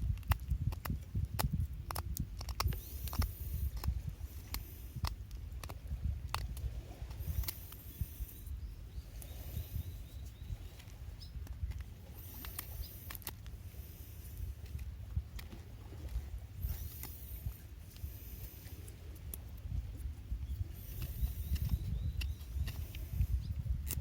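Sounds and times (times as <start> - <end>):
small clicks and ticks: 0.0 - 24.0.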